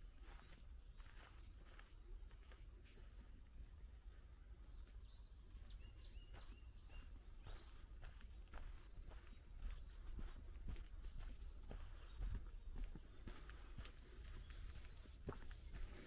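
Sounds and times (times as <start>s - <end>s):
footsteps on dirt path: 0.0s - 3.4s, 4.8s - 16.0s
small birds chirping: 0.0s - 16.0s.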